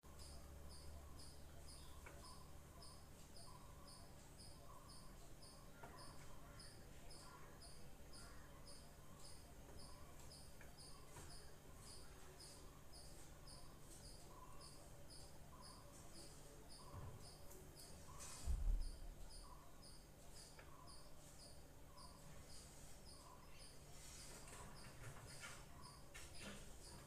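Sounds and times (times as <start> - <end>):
insects chirping: 0.1 - 27.0.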